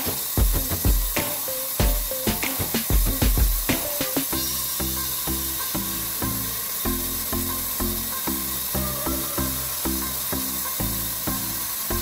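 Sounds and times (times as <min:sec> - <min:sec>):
music with beat and bass line: 0:00.0 - 0:12.0
steady high hiss: 0:00.0 - 0:12.0.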